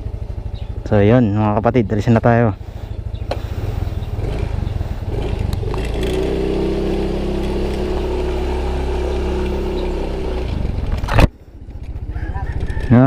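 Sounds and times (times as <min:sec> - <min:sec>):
scooter engine pulling away: 0:00.0 - 0:00.9, 0:02.6 - 0:13.0.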